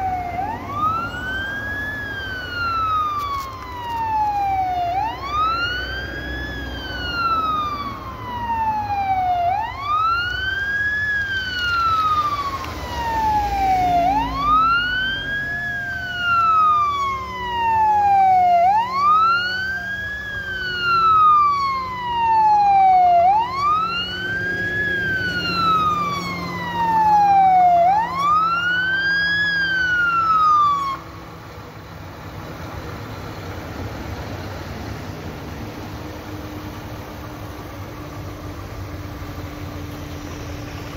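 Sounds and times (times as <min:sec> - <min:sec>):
fire engine wail siren: 0:00.0 - 0:40.9
truck engine running: 0:00.0 - 0:40.9.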